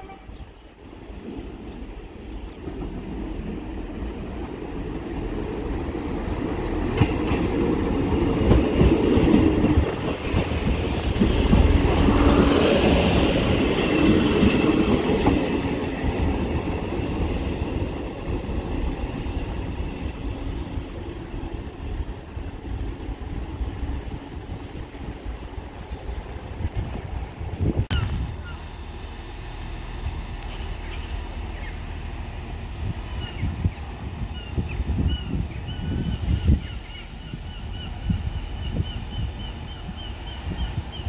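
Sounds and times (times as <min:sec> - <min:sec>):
train rumbling past: 0:00.0 - 0:41.0.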